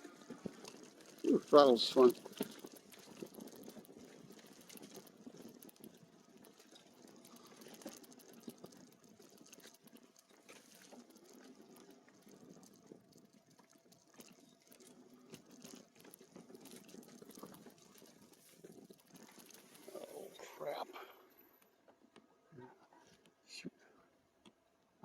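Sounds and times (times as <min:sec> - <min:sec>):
bike tyres rolling over leaf litter: 0:00.0 - 0:20.4.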